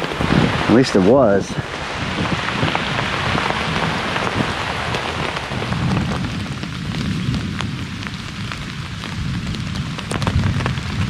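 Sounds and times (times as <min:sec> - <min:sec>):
heavy rain pattering on tarp: 0:00.0 - 0:11.0
low rumble of thunder: 0:00.0 - 0:11.0.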